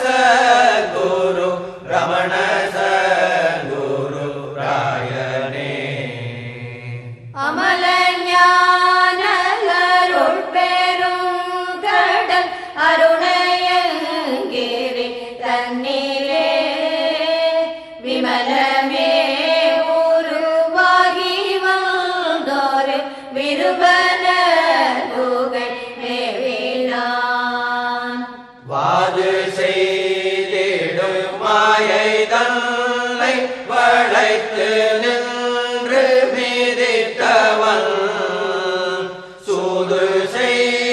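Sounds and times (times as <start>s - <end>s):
person chanting devotional song: 0.0s - 40.9s.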